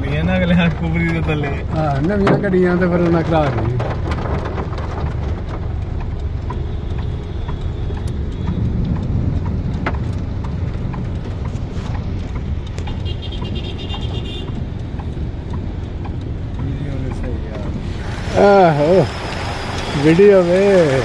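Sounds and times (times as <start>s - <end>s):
hailstones ticking on car: 0.0s - 21.0s
heavy rain on car roof: 0.0s - 21.0s.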